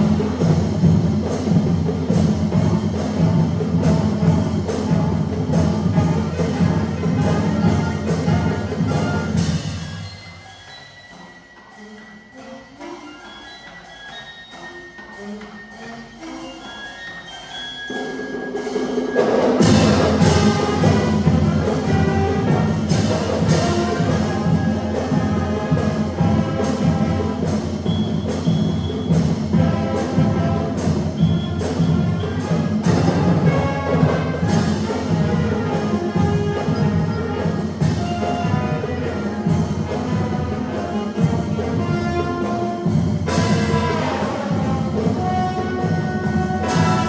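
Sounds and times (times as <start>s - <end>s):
sharp drum and cymbal hits: 0.0s - 12.5s, 17.9s - 47.0s
concert band playing: 0.0s - 47.0s.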